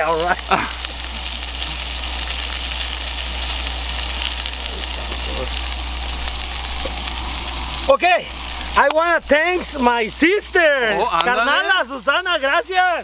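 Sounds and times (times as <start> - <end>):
burger patties sizzling in oil: 0.0 - 13.0.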